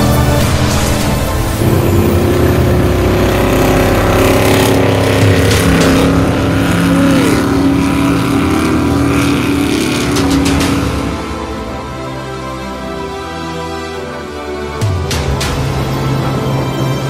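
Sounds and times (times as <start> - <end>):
powerboat engine droning: 0.0 - 14.7.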